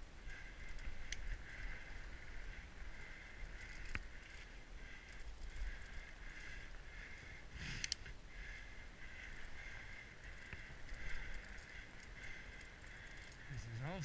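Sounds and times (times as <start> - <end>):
bike tyres rolling on snow: 0.0 - 14.0.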